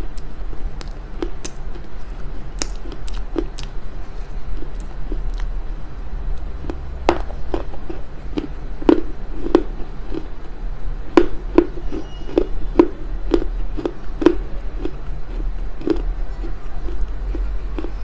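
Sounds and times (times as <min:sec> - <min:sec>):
clay crunching while chewed: 0:00.0 - 0:05.5, 0:06.3 - 0:18.0
low hum: 0:00.0 - 0:18.0.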